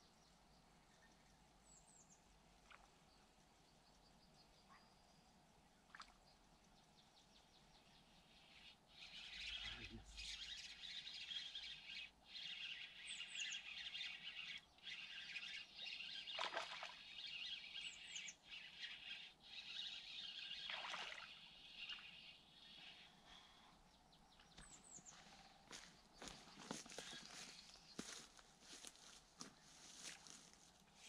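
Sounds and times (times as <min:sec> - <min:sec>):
small birds singing and chirping: 0:00.0 - 0:31.0.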